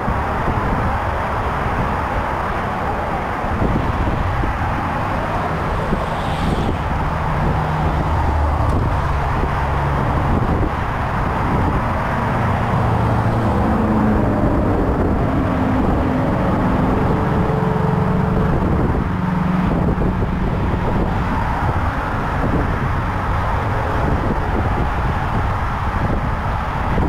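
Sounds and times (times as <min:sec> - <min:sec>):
cars passing: 0:00.0 - 0:27.0
freeway traffic noise: 0:00.0 - 0:27.0.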